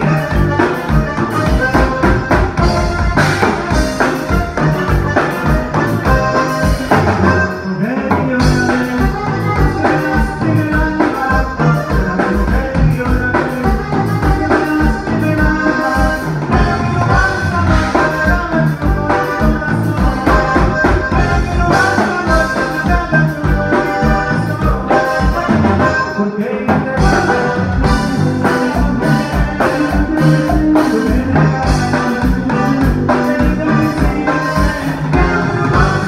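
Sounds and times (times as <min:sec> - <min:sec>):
button accordion: 0:00.0 - 0:36.0
drum kit beat: 0:00.0 - 0:36.0
guitar: 0:00.0 - 0:36.0
man singing: 0:00.0 - 0:36.0.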